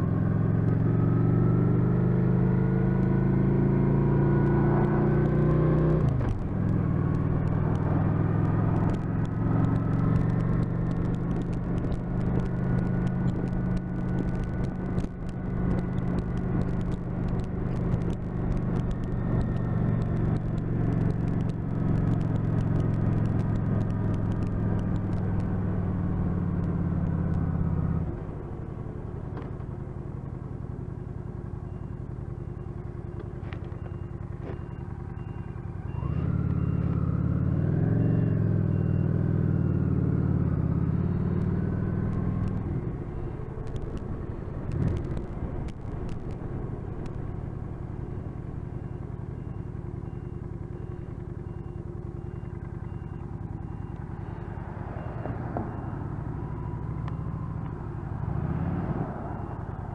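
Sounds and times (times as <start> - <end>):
motorcycle engine running: 0.0 - 58.3.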